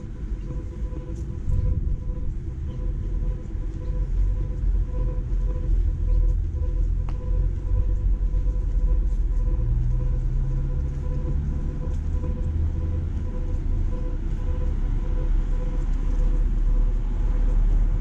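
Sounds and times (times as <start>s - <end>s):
steady thin whine: 0.0s - 18.0s
street traffic rumble: 0.0s - 18.0s
vehicle engine revving: 0.0s - 18.0s.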